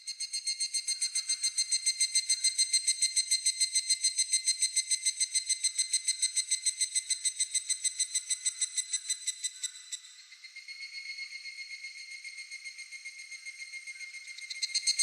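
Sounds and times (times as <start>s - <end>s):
cicada calling in ringing pulses: 0.1s - 15.0s.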